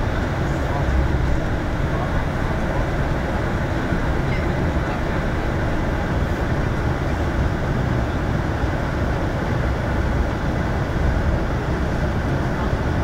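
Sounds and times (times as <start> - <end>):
bus travel noise: 0.0 - 13.0.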